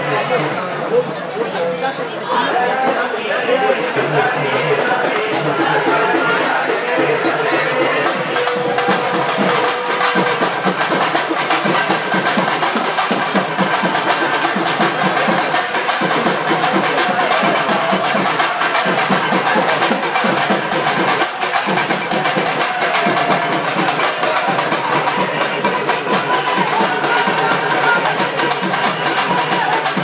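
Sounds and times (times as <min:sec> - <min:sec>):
fast percussion drumming: 0:03.9 - 0:30.0.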